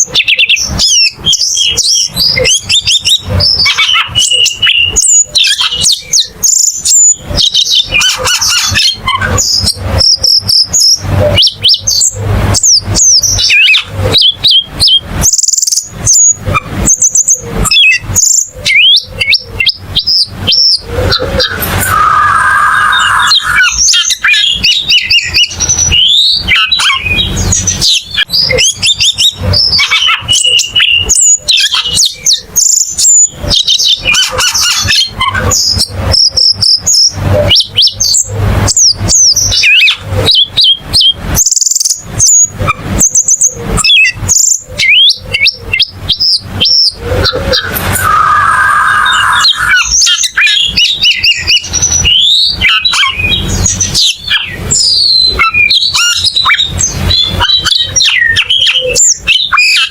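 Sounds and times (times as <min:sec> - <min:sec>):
bird singing sharp chirps: 0:00.0 - 0:59.9
low bird warbling: 0:00.0 - 0:59.9.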